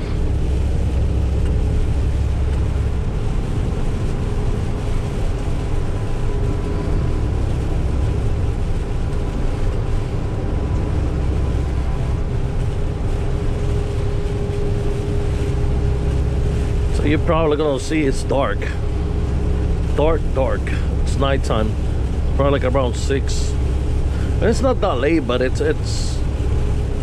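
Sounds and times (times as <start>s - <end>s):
faint steady whine: 0.0s - 27.0s
truck engine and road drone: 0.0s - 27.0s
wet tyres on water: 0.0s - 27.0s.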